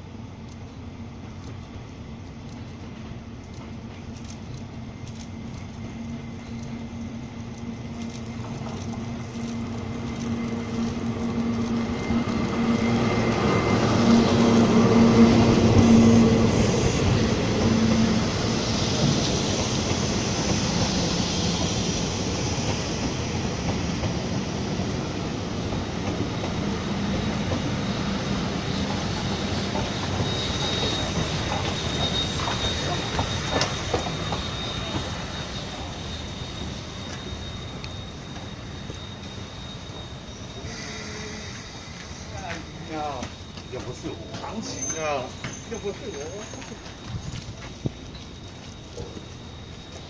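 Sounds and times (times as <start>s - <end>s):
train wheels on rails: 0.0s - 50.0s
high wheel squeal: 7.8s - 50.0s.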